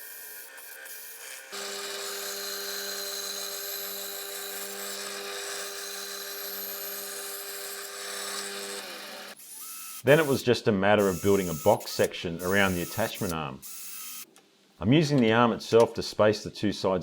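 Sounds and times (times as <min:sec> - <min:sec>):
power tool cutting wood: 0:00.0 - 0:10.4, 0:11.0 - 0:14.3.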